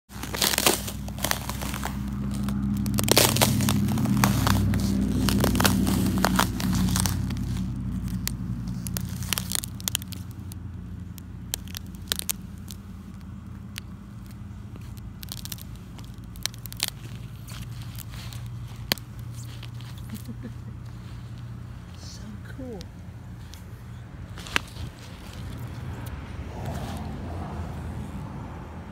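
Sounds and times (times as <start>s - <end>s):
ice cracking underfoot: 0.1s - 27.1s
low rumble: 0.1s - 28.9s.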